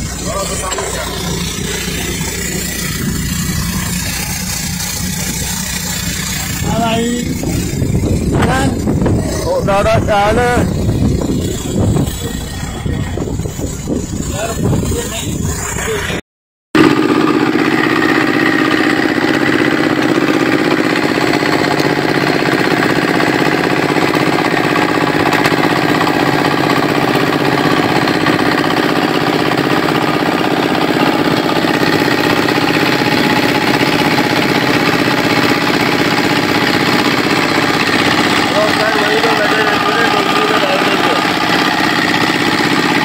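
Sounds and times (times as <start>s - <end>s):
boat engine running steadily: 0.0s - 16.2s, 16.8s - 43.0s.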